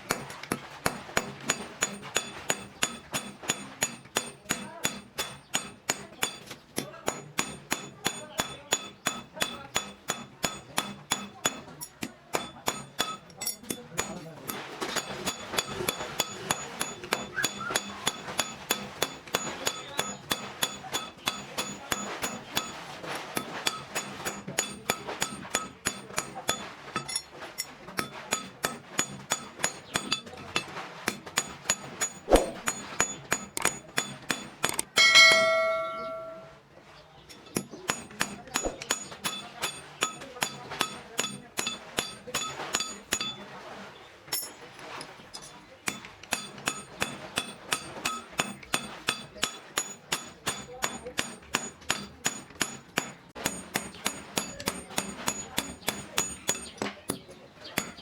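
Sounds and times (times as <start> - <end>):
hammer striking metal: 0.0 - 36.6, 37.3 - 43.4, 45.9 - 57.2, 57.8 - 58.0.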